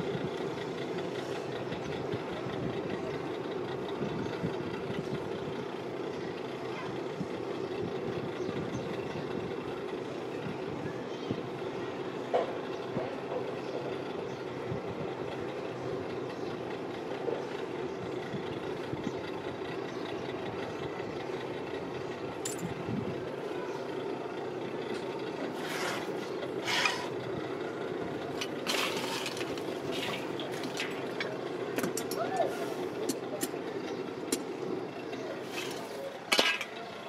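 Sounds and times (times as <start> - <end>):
machine drone: 0.0 - 37.0.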